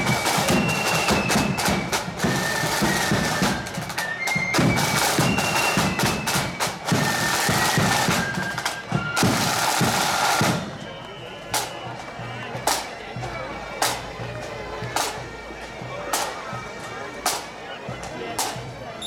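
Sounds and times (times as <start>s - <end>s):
flute melody: 0.0s - 19.0s.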